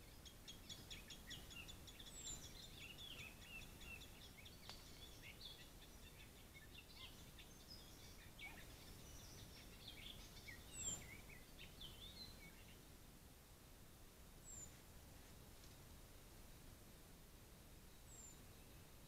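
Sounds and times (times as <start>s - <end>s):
songbirds chirping: 0.0s - 19.0s
steady hiss: 0.0s - 19.0s.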